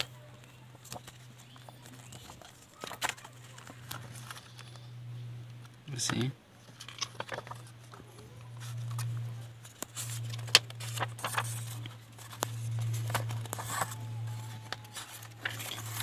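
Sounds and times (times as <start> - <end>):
steady low hum: 0.0 - 16.0
paper pages rustling: 0.4 - 4.9, 6.7 - 16.0.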